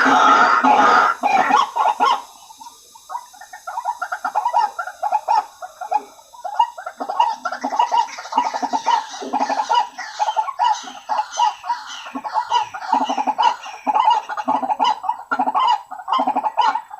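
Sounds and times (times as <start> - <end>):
waterhen harsh calls: 0.0 - 16.9.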